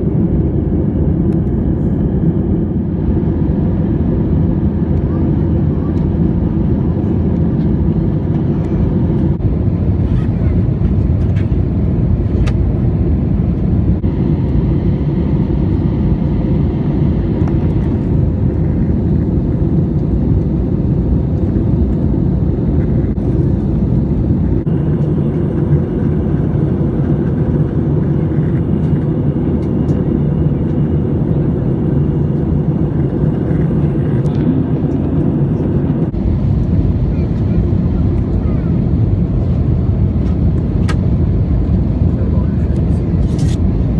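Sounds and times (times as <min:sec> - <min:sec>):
aircraft cabin engine rumble: 0:00.0 - 0:43.9.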